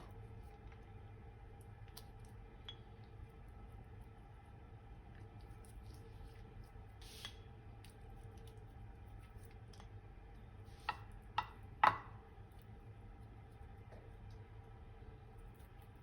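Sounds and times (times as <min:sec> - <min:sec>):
soft squish: 0:00.0 - 0:11.3, 0:12.4 - 0:16.0
low steady hum: 0:00.0 - 0:16.0.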